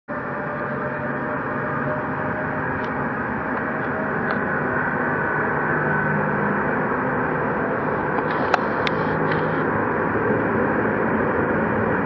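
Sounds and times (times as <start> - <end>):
jet engines roaring: 0.1 - 12.0.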